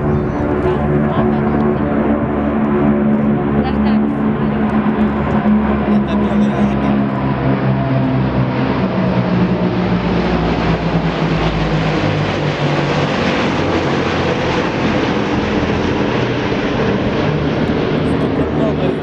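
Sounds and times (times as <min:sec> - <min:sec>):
military aircraft flying over: 0:00.0 - 0:19.0.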